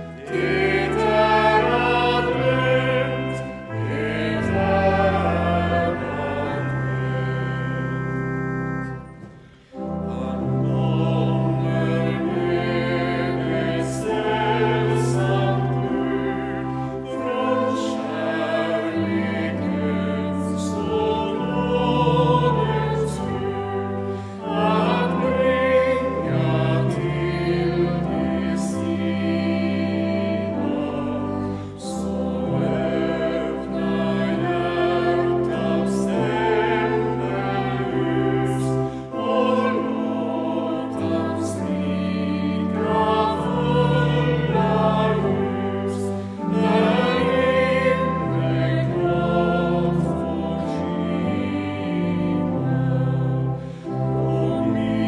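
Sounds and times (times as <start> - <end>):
choir singing slowly: 0.0 - 55.0.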